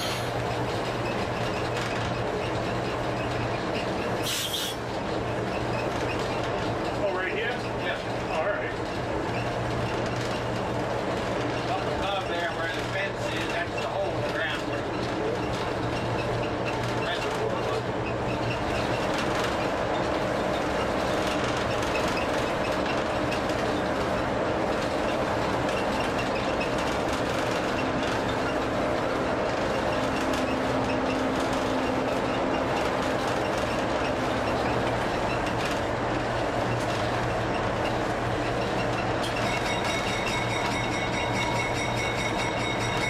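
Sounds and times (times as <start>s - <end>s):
diesel locomotive running: 0.0s - 43.0s
wheels clicking over rail joints: 0.0s - 43.0s.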